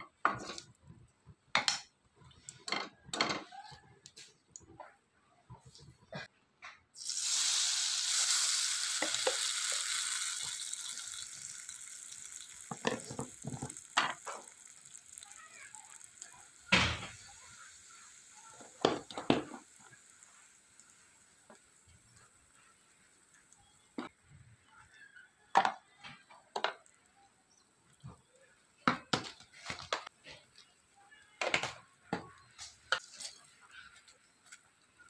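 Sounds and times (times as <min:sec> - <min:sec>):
spices sizzling in hot oil: 0:00.1 - 0:00.8, 0:06.9 - 0:35.0.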